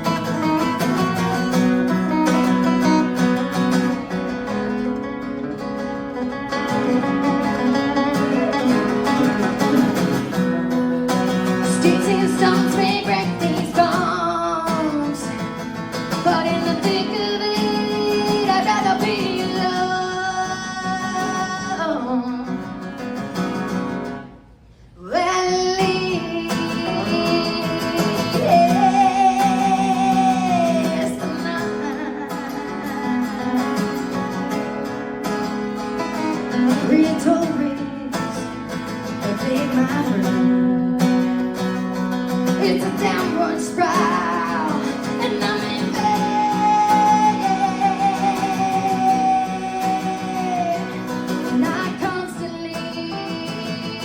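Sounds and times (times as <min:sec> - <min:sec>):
strummed acoustic guitar: 0:00.0 - 0:54.0
woman singing: 0:06.5 - 0:22.8, 0:25.0 - 0:34.8, 0:36.2 - 0:54.0.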